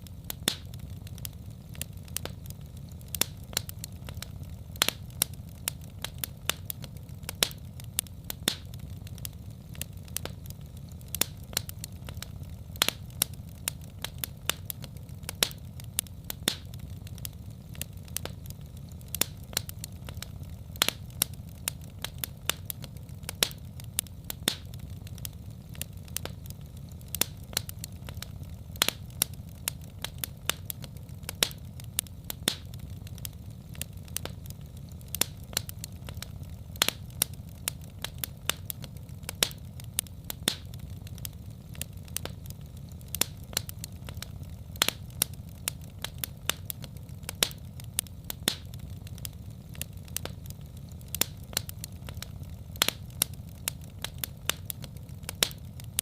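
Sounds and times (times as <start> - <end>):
low rumble of fire: 0.0 - 56.0
wood fire pops and snaps: 0.0 - 56.0.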